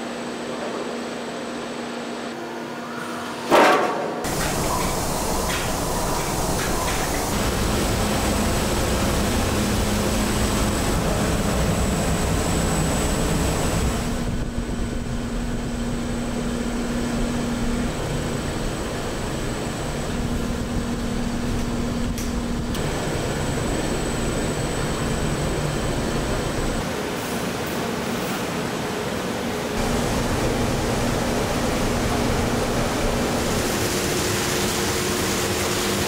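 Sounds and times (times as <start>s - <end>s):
factory machinery hum: 0.0s - 36.0s
high steady machine whine: 4.2s - 36.0s.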